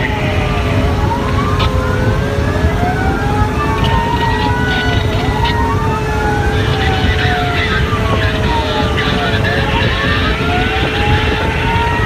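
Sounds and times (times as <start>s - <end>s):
fire engine siren wailing: 0.0s - 12.0s
heavy low rumble: 0.0s - 12.0s.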